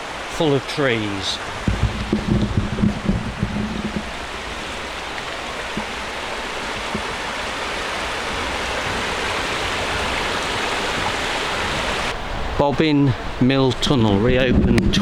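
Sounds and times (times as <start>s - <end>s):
river water rushing: 0.0s - 13.5s.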